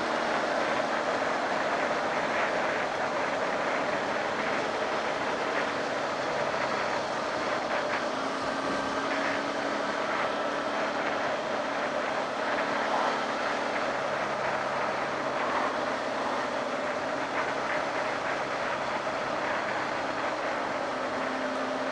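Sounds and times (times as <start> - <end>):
wind rush over microphone: 0.0 - 21.9.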